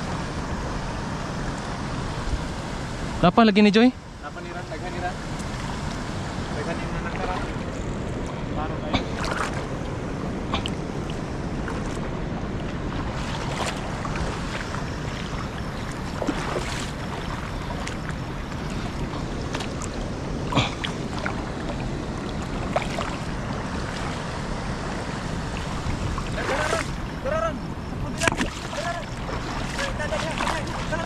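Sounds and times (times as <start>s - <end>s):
shallow water rushing: 0.0s - 31.0s
splashes of wading: 5.2s - 31.0s.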